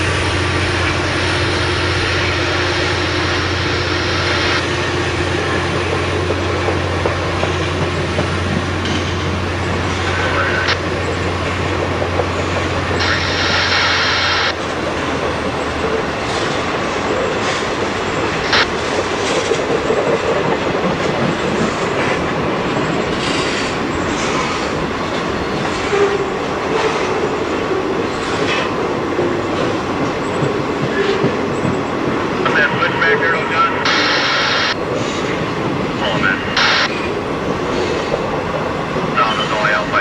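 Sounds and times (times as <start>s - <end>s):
wheels clacking over rail joints: 0.0s - 13.3s, 14.1s - 32.9s
freight train rumbling: 0.0s - 40.0s.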